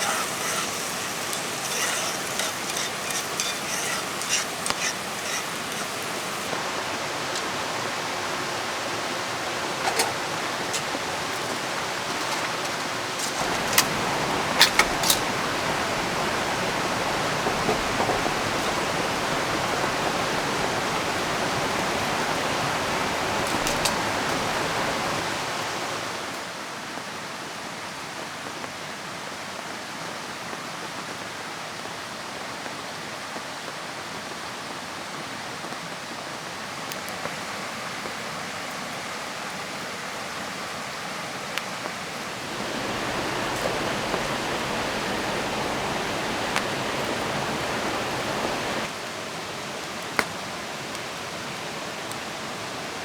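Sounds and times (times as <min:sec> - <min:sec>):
river water rushing: 0:00.0 - 0:26.6, 0:36.3 - 0:53.0
rain: 0:00.0 - 0:53.0.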